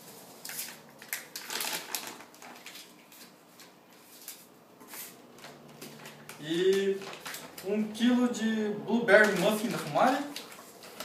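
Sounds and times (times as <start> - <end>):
plastic bag crinkling: 0.0 - 8.1, 9.1 - 11.0.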